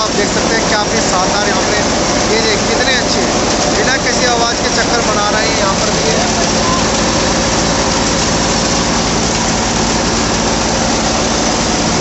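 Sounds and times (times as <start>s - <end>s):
tractor engine and thresher drone: 0.0s - 12.0s.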